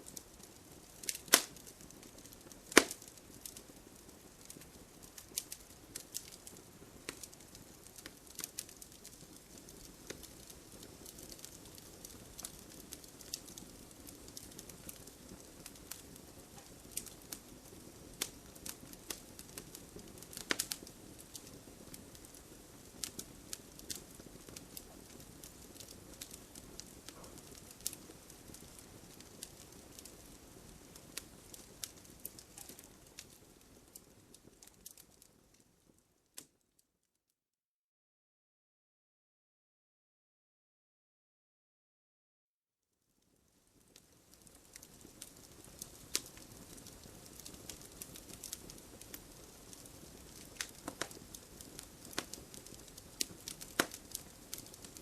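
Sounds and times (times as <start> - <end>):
fireplace fire crackling: 0.0 - 36.8, 43.2 - 55.0.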